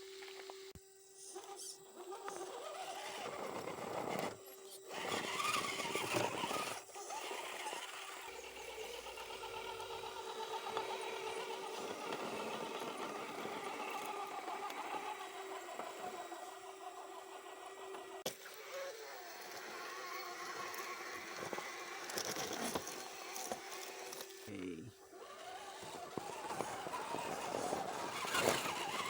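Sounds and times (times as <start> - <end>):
electric motor whine: 0.0 - 29.0
scrabbling over rough ground: 1.3 - 29.0.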